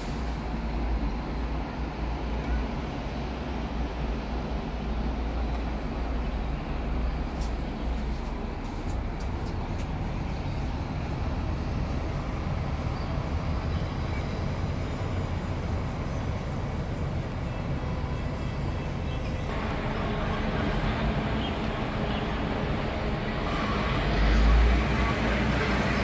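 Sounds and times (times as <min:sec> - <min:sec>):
distant city traffic rumble: 0:00.0 - 0:26.0.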